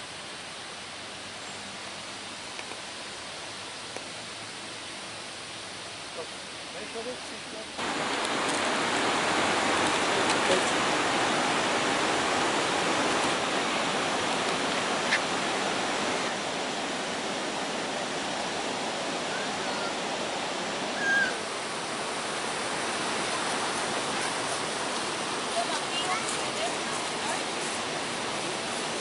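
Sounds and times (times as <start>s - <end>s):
flowing water rushing: 0.0s - 29.0s.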